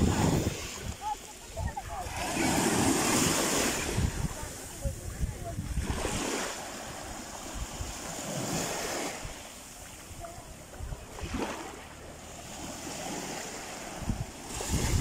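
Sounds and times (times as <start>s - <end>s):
sea waves washing over sand: 0.0s - 15.0s.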